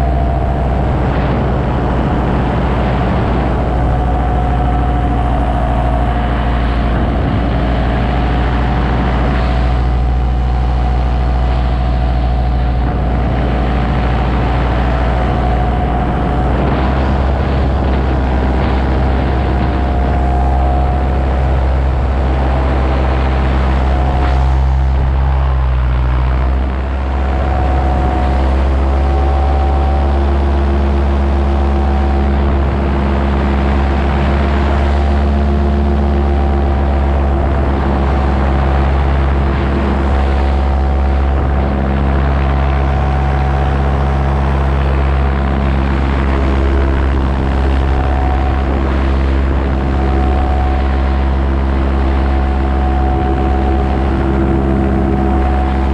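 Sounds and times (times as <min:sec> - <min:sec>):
paramotor engine and propeller: 0:00.0 - 0:55.9.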